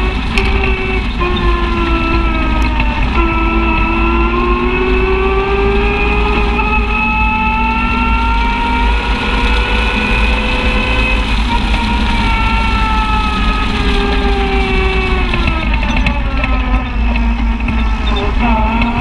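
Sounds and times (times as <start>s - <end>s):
utility vehicle engine running: 0.0s - 19.0s.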